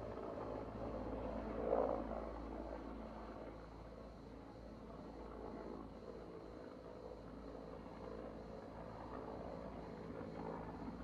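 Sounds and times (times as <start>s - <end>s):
distant helicopter: 0.0s - 11.0s.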